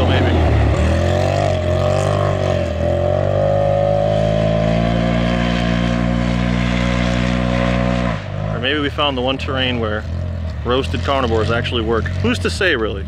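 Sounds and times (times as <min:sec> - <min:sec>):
utv engine revving: 0:00.0 - 0:13.0.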